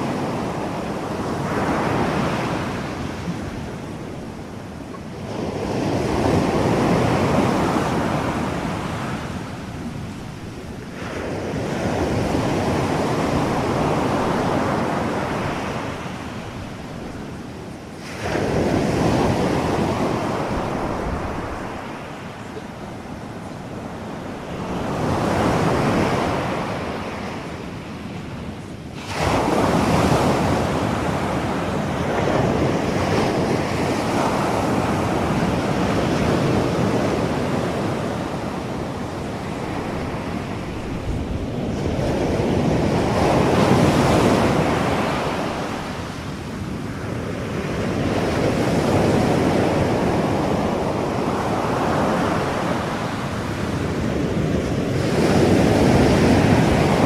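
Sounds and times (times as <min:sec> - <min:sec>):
ocean waves washing in: 0:00.0 - 0:57.0.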